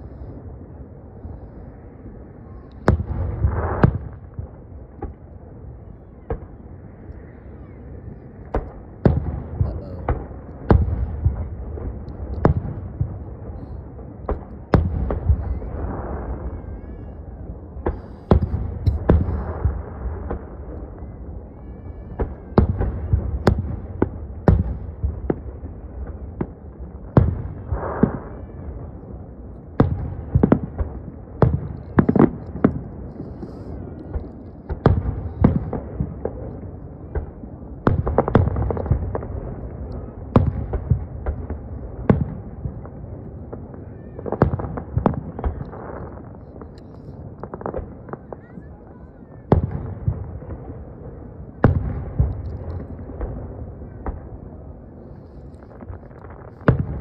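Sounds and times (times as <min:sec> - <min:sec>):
fireworks bangs: 0:01.4 - 0:57.0.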